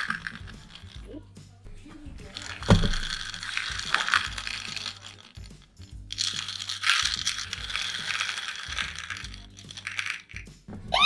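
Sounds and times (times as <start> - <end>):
rain stick rattling: 0.0 - 11.0.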